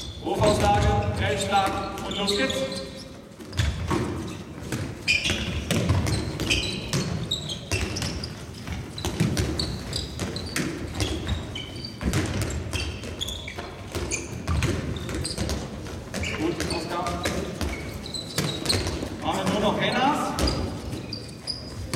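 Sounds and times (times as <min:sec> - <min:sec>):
sneakers squeaking on floor: 0:00.0 - 0:21.9
ball bouncing on wooden floor: 0:03.4 - 0:21.1.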